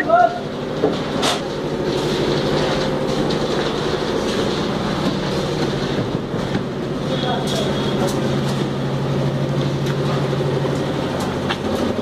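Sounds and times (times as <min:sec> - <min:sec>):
concrete mixer running: 0:00.0 - 0:12.0.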